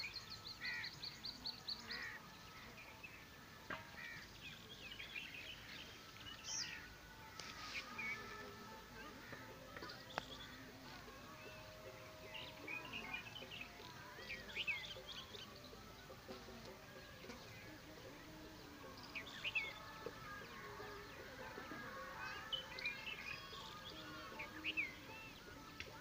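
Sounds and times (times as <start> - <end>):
faint background noise: 0.0 - 26.0
small birds chirping: 0.0 - 26.0.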